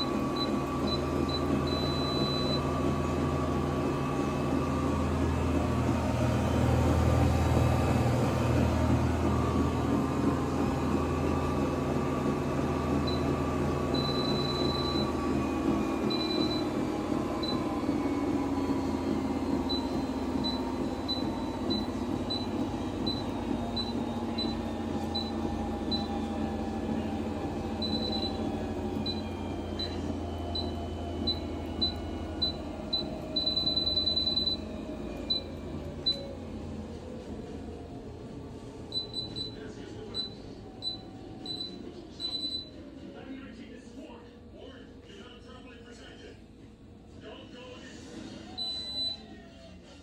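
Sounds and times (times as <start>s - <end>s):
treadmill motor hum: 0.0s - 50.0s.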